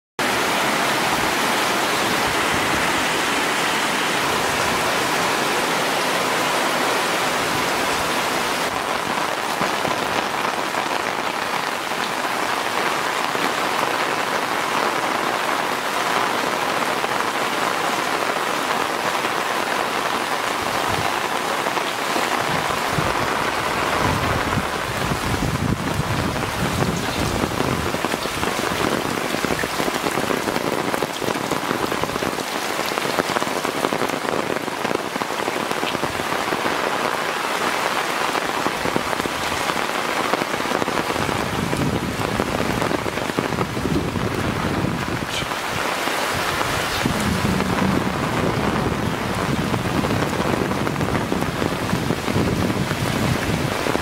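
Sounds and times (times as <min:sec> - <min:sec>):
heavy rain on leaves: 0:00.2 - 0:54.0.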